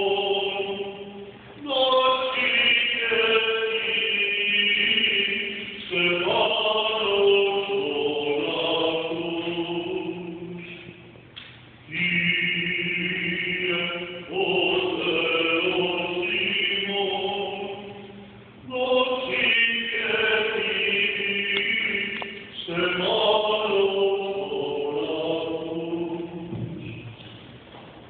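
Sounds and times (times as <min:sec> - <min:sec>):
liturgical chant: 0:00.0 - 0:11.2, 0:11.9 - 0:27.4.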